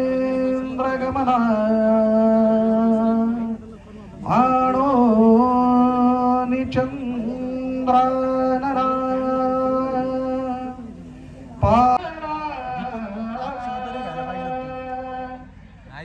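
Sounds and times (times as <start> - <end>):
man chanting over loudspeakers: 0.0 - 11.0, 11.6 - 16.0.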